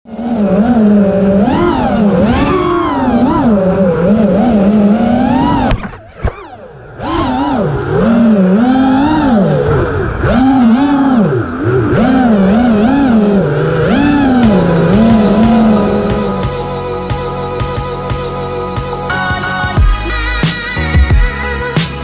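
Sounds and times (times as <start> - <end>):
drone motors whining: 0.1 - 22.0.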